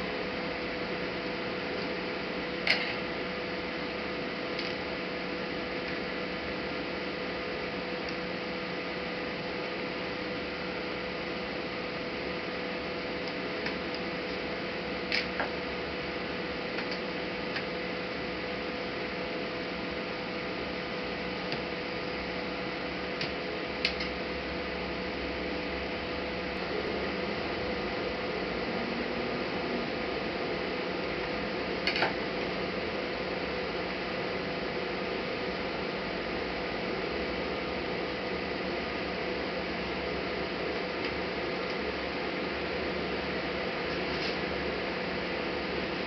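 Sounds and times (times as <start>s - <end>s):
electrical hum and hiss: 0.0s - 46.0s.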